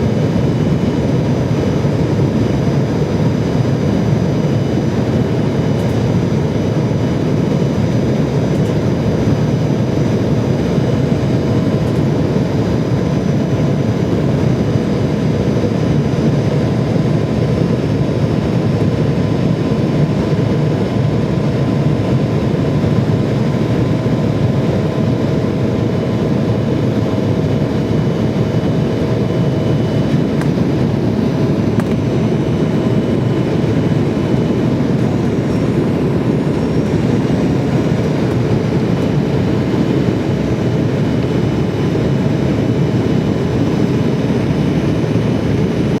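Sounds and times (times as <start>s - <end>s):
airliner cabin engine noise: 0.0s - 46.0s.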